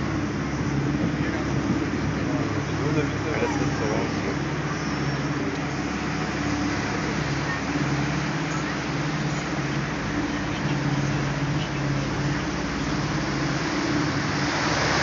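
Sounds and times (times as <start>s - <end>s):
boat engine low drone: 0.0s - 15.0s
rushing noise: 0.0s - 15.0s.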